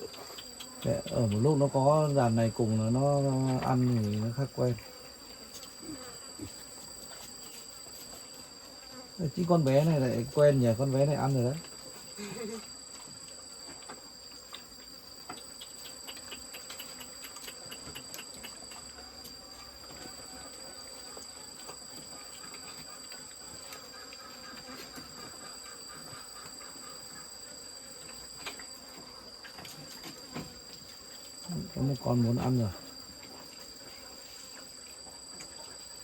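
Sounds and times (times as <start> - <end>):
shrill insect chorus: 0.0 - 36.0.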